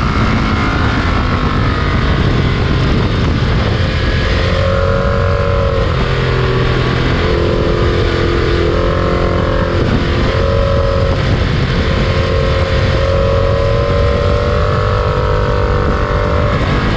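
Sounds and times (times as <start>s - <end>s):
humming tone shifting pitch: 0.0s - 16.9s
wind and road rush: 0.0s - 16.9s.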